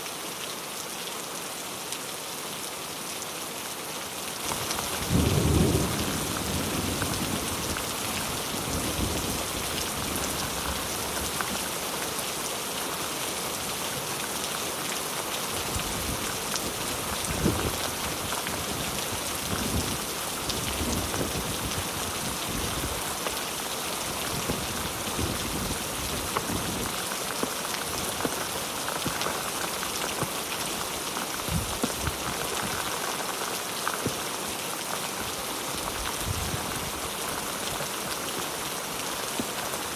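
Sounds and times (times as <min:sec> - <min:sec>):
heavy rain pattering: 0:04.2 - 0:39.9.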